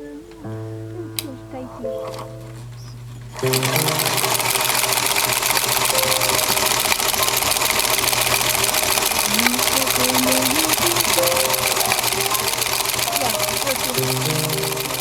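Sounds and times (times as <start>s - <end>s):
sewing machine stitching: 1.8s - 15.0s.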